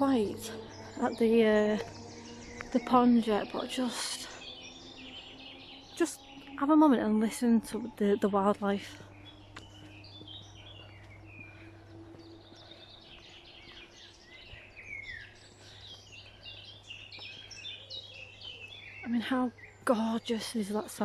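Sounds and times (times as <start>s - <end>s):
birds singing and chirping: 0.0s - 21.0s.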